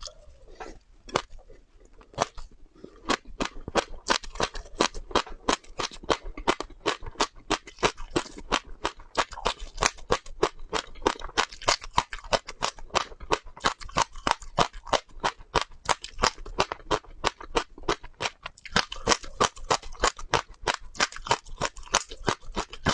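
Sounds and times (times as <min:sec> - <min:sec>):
seeds being chewed crunching: 0:00.0 - 0:22.9.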